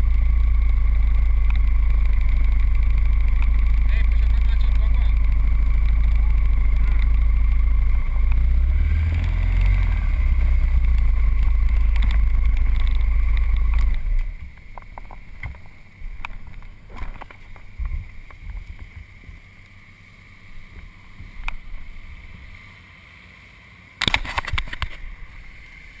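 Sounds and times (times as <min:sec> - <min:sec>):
motorcycle engine idling: 0:00.0 - 0:23.9, 0:24.5 - 0:26.0.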